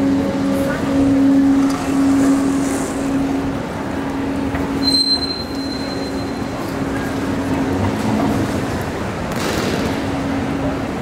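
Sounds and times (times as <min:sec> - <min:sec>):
train running: 0:00.0 - 0:09.3.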